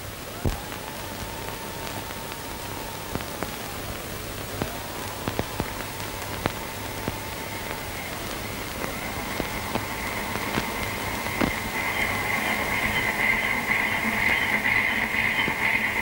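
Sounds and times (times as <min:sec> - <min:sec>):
crackles and clicks: 0:00.0 - 0:16.0
film soundtrack hiss and hum: 0:00.0 - 0:16.0.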